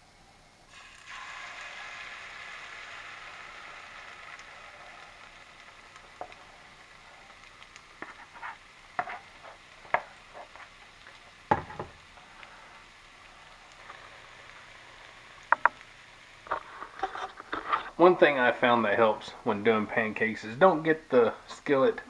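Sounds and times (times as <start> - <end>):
batter sizzling in a skillet: 0.6 - 22.0.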